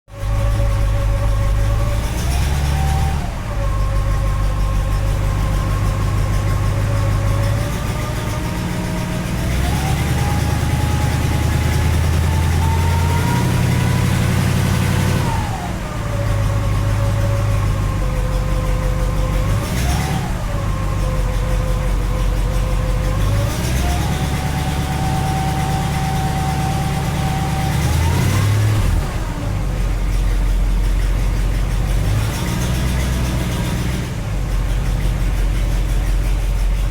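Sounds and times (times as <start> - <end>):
car engine running: 0.1 - 36.9
wandering engine whine: 0.1 - 36.9.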